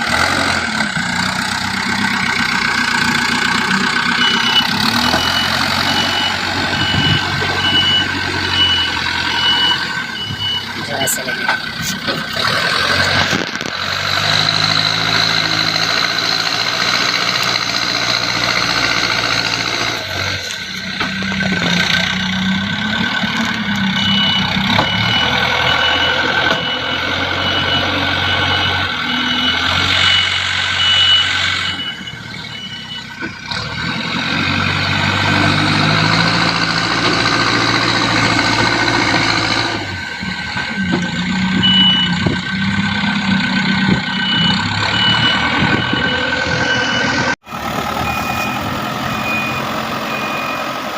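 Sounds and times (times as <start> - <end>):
diesel engine working: 0.0 - 50.9
reversing alarm beeping: 2.2 - 12.3, 14.2 - 33.3, 34.7 - 50.9.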